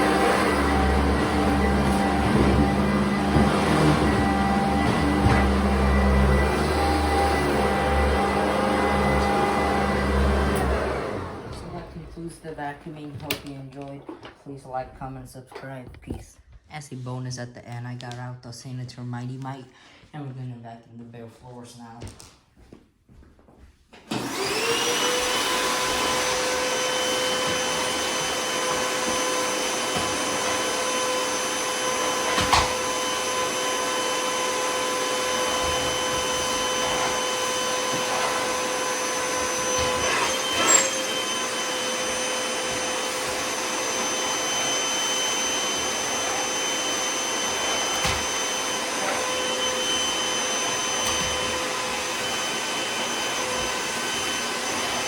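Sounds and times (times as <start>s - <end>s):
vacuum cleaner motor whining: 0.0s - 13.6s, 24.0s - 55.0s.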